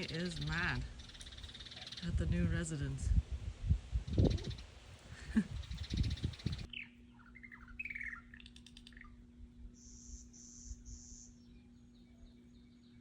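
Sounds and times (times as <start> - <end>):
small birds chirping: 0.0 - 2.9, 4.0 - 13.0.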